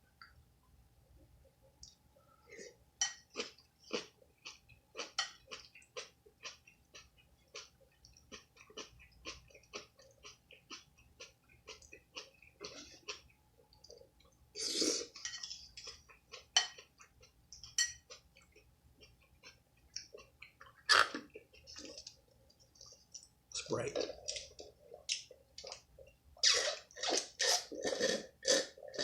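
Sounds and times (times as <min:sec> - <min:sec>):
person chewing crunchy food: 0:03.1 - 0:23.3, 0:24.0 - 0:29.0.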